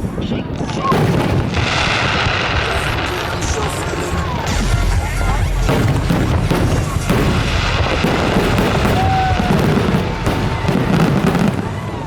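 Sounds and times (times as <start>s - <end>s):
fireworks booming and crackling: 0.0s - 12.0s
deep rumble: 0.9s - 11.6s.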